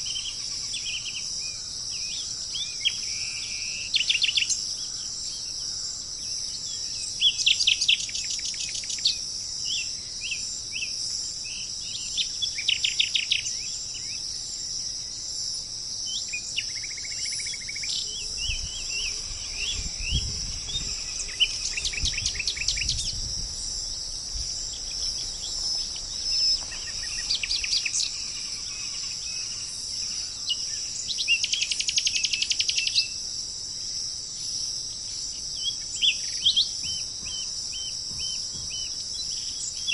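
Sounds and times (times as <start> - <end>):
insects chirring: 0.0 - 39.9
songbird chirping: 0.0 - 39.9.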